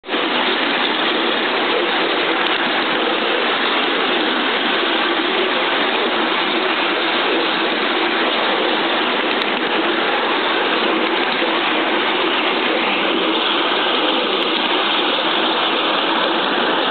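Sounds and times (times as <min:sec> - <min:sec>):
model steam locomotive running: 0:00.1 - 0:16.9.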